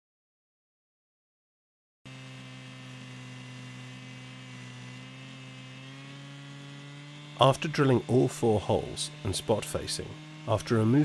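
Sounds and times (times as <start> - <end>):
machine hum: 2.1 - 11.0.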